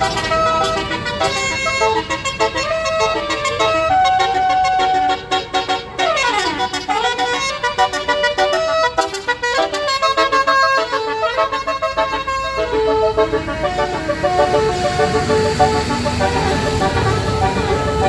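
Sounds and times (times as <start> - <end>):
musical bus air horn: 0.0 - 18.0.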